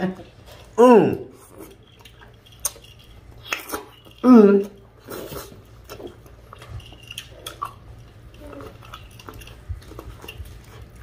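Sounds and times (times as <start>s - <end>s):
low steady hum: 0.0s - 11.0s
wet chewing and lip-smacking: 0.4s - 11.0s.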